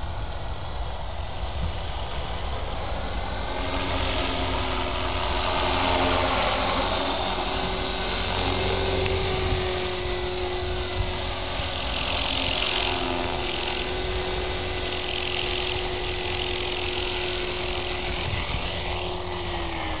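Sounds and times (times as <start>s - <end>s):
rc helicopter motor whine: 0.0s - 20.0s
rotor buzz: 0.0s - 20.0s.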